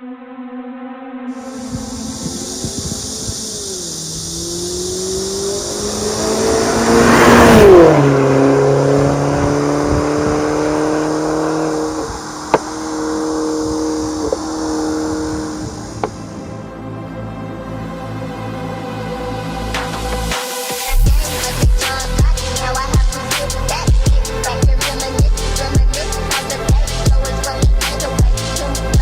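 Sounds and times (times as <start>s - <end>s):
car engine revving and idling: 1.4s - 16.9s, 19.2s - 29.0s.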